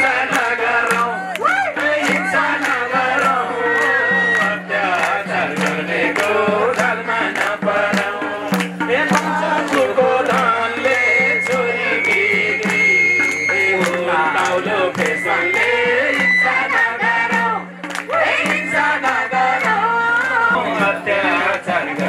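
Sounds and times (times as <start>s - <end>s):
man singing into microphone: 0.0s - 17.0s, 20.4s - 22.0s
regular drum beat: 0.0s - 22.0s.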